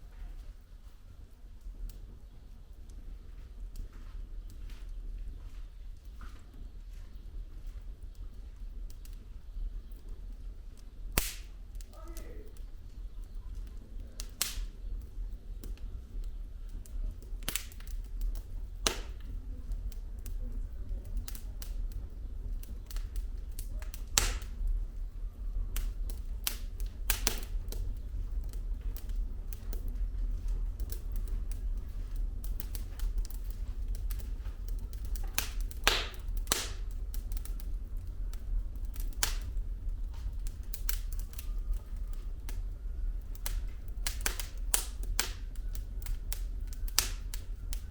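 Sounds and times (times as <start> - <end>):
logs crackling and popping: 0.0 - 47.9
low rumble of flames: 0.0 - 47.9.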